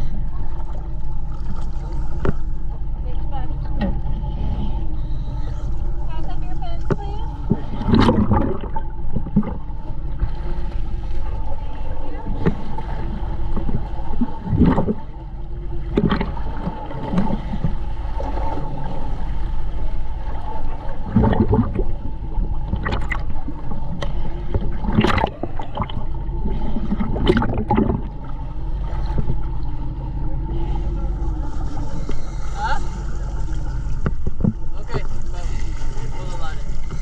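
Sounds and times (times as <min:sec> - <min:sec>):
steady low hum: 0:00.0 - 0:37.0
water sloshing and gurgling: 0:00.0 - 0:37.0.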